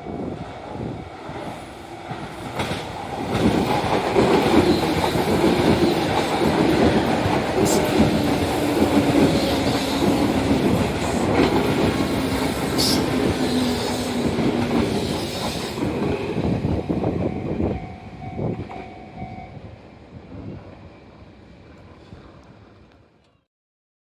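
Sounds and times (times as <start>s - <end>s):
electric train passing: 0.0s - 23.1s.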